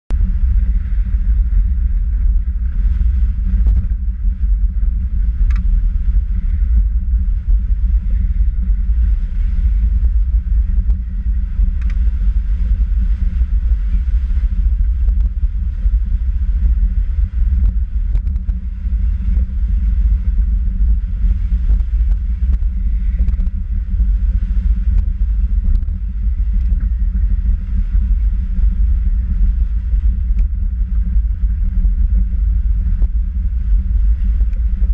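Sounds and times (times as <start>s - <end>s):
tyre and wind rumble: 0.1s - 34.9s.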